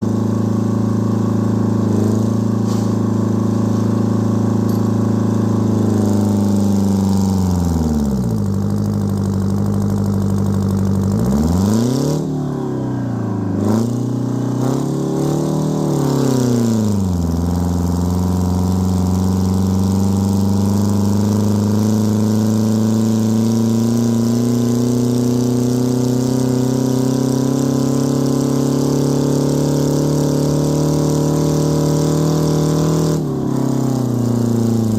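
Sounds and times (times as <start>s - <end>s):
diesel tractor engine under load: 0.0s - 34.9s.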